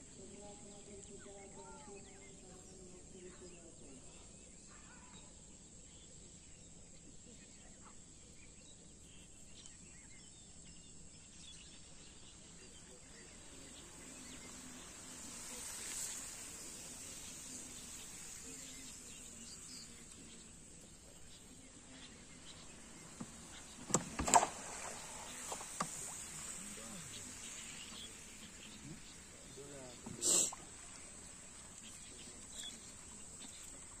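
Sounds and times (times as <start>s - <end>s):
wetland ambience: 0.0s - 34.0s.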